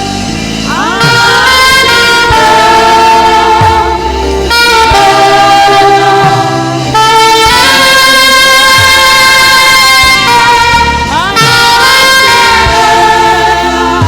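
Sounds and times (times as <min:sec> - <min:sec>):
bass: 0:00.0 - 0:14.0
saxophone gospel melody: 0:00.0 - 0:14.0
steady drum beat: 0:00.0 - 0:14.0.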